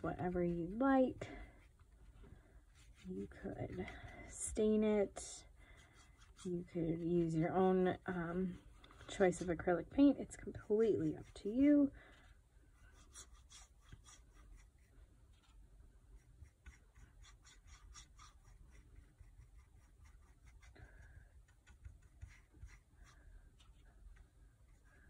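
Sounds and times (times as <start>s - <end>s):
low room hum: 0.0s - 25.0s
paintbrush strokes on wood: 0.0s - 25.0s.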